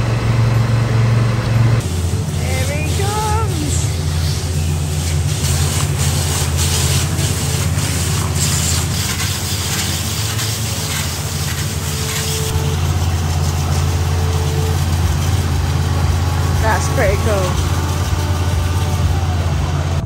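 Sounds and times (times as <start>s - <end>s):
pump humming: 0.0s - 20.0s
water spray hissing: 1.8s - 20.0s.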